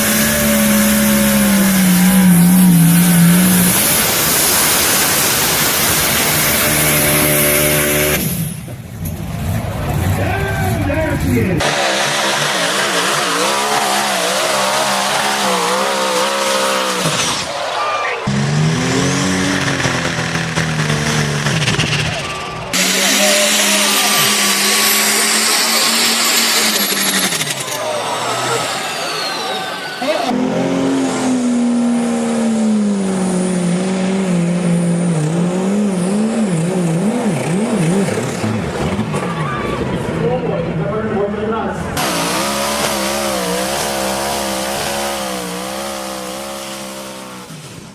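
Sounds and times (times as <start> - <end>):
second engine running: 0.0 - 17.4, 18.2 - 41.0, 41.9 - 47.9
tractor engine under load: 0.0 - 40.4, 41.7 - 47.9.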